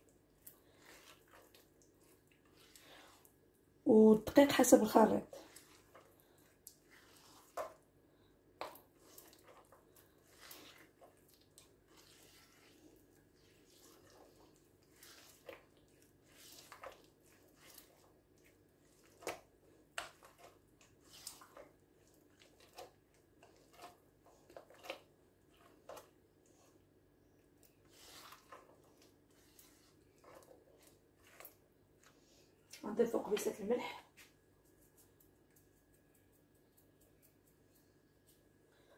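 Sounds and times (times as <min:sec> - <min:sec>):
hand squelching soft mixture: 0:00.0 - 0:38.9.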